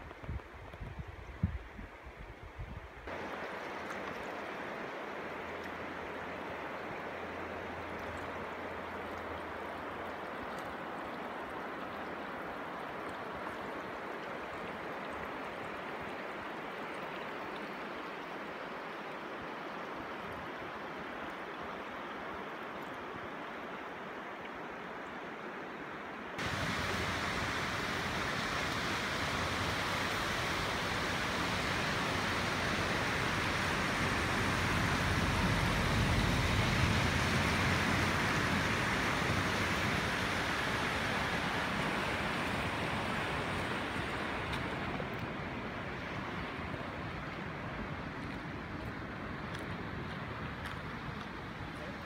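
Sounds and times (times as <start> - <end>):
river water rushing with ice: 0.0 - 52.0.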